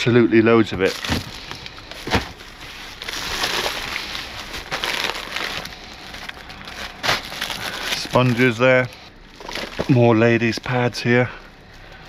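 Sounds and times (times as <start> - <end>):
packaging rustling and crinkling: 0.8 - 10.5.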